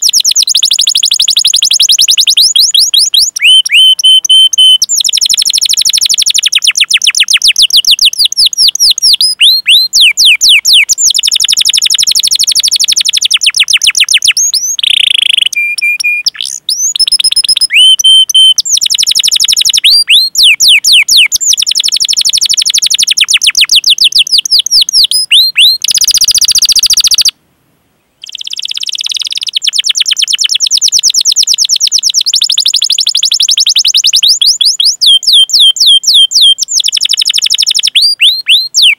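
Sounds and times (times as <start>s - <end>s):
canary singing trills: 0.0s - 27.3s, 28.2s - 38.9s.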